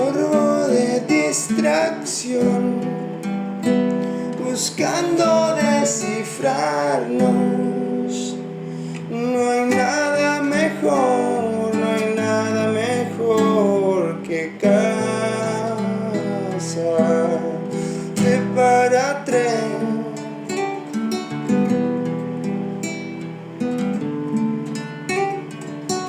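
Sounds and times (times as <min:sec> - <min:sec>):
person singing wordless melody: 0:00.0 - 0:20.9
acoustic guitar strumming: 0:00.0 - 0:26.0.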